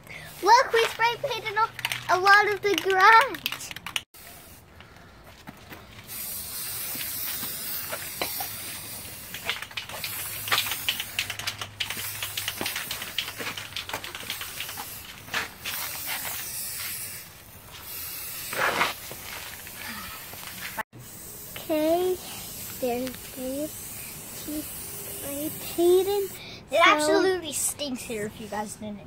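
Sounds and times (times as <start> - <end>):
spray paint can hissing: 0.2 - 4.7, 5.9 - 26.4.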